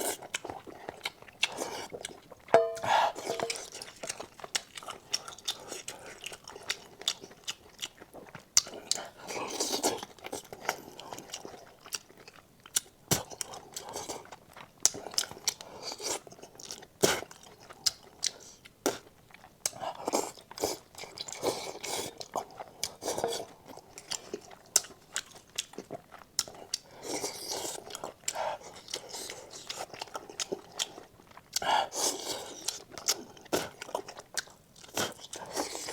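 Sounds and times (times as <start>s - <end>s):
food crunching: 0.0s - 18.4s, 19.0s - 35.9s
person chewing food: 0.0s - 35.9s.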